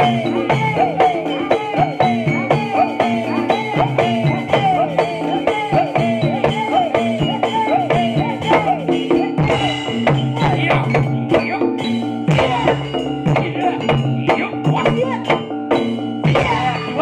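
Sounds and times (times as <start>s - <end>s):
hand-drum strokes: 0.0s - 17.0s
ringing metallophone and gong: 0.0s - 17.0s.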